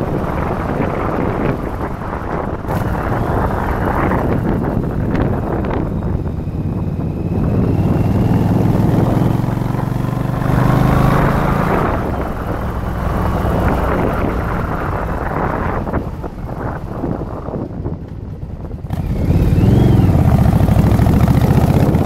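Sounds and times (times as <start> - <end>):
motorcycle engine running: 0.0 - 22.0
wind on microphone: 0.0 - 22.0.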